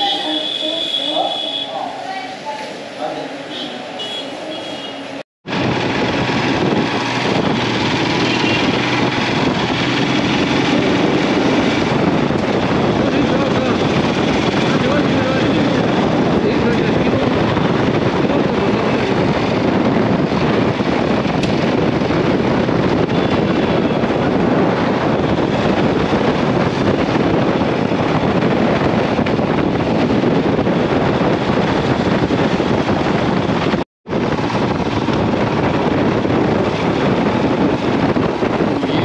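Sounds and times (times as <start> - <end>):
motorcycle road noise: 0.0 - 39.0
wind rushing over microphone: 5.1 - 39.0.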